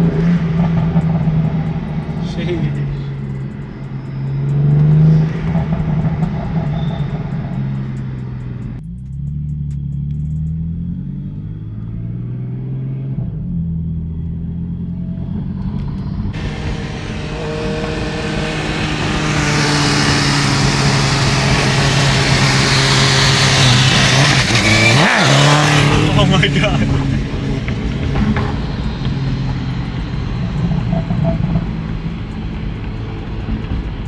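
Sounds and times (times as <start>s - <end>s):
car engine and exhaust: 0.0s - 34.0s
road and wind noise: 0.0s - 34.0s.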